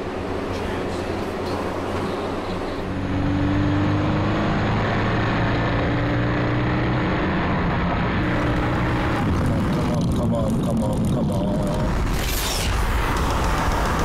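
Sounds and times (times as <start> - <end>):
car engine running under load: 0.0 - 14.0.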